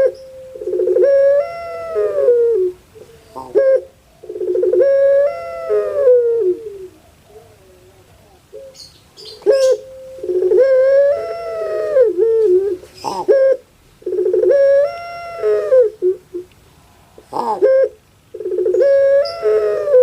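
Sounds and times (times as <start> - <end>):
dove cooing with rattling trill: 0.0 - 16.5, 17.2 - 20.0.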